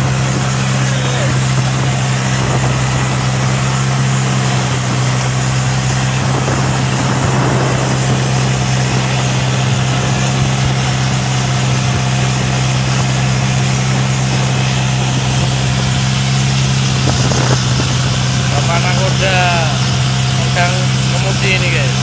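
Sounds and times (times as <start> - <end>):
boat engine droning: 0.0 - 22.0
wind and sea rushing: 0.0 - 22.0.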